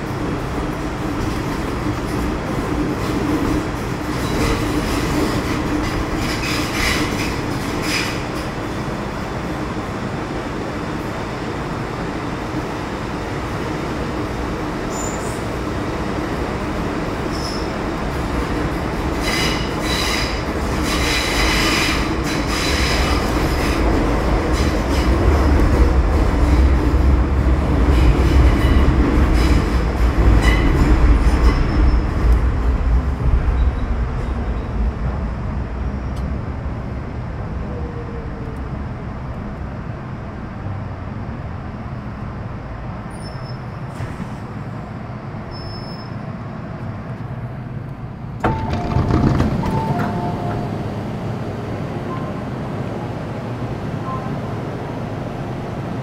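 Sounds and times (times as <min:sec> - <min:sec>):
train wheels and traction rumble: 0:00.0 - 0:56.0.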